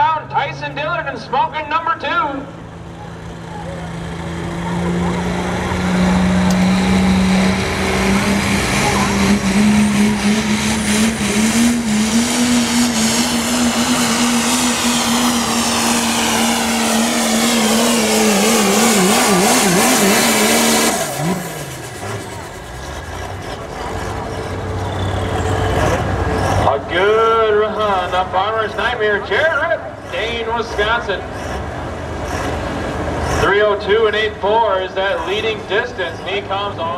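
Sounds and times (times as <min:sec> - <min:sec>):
diesel pickup engine at full throttle: 0:00.0 - 0:36.9.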